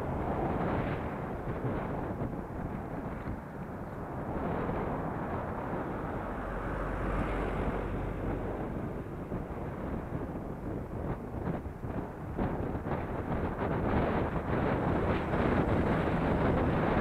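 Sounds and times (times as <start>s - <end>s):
tyre and traffic noise: 0.0s - 17.0s
wind rushing on microphone: 0.0s - 17.0s.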